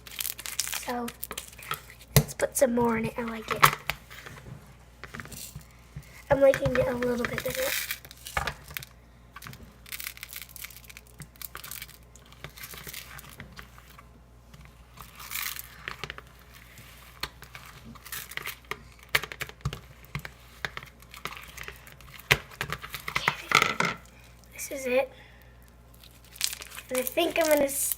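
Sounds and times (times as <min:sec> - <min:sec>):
slime crackling and squelching: 0:00.0 - 0:27.9.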